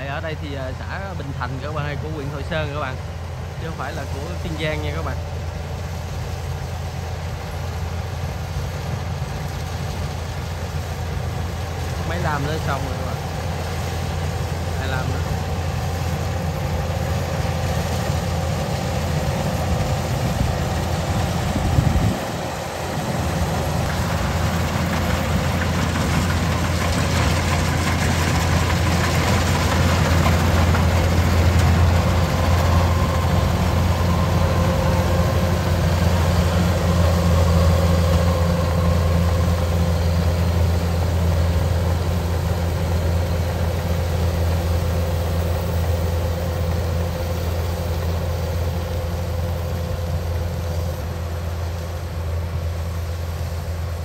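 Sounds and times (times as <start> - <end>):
broad rushing noise: 0.0 - 54.0
combine harvester engine drone: 0.0 - 54.0.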